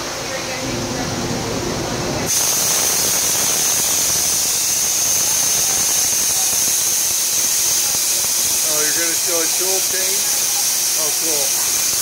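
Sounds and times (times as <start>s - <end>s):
machine hissing with high whistle: 2.3s - 12.0s.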